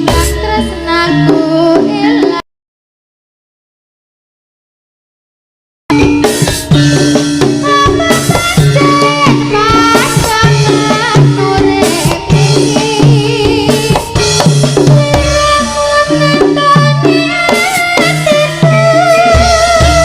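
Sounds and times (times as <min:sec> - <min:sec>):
drumming and percussion: 0:00.0 - 0:02.4, 0:05.9 - 0:20.0.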